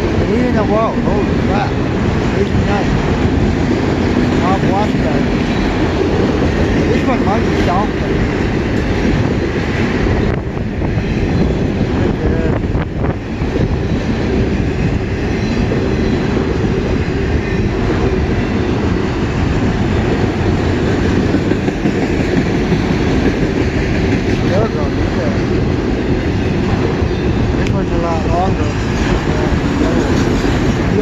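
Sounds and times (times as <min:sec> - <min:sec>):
freight train wheels rumbling on rails: 0:00.0 - 0:31.0.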